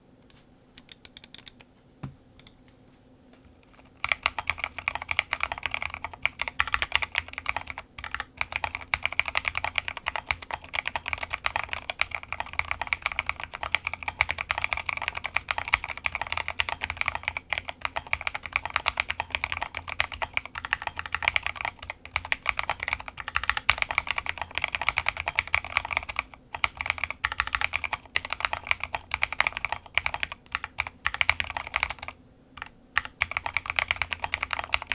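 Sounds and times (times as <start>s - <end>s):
mechanical keyboard typing: 0.8s - 1.6s, 3.9s - 34.9s.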